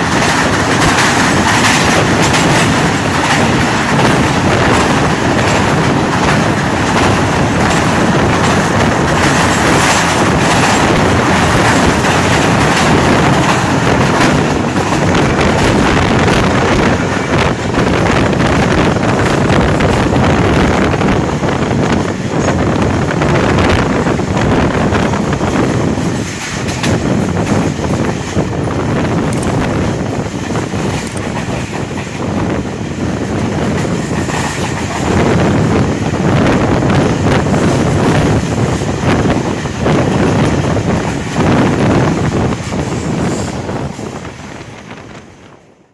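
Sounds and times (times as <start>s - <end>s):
train wheels rumbling and clattering: 0.0s - 45.9s.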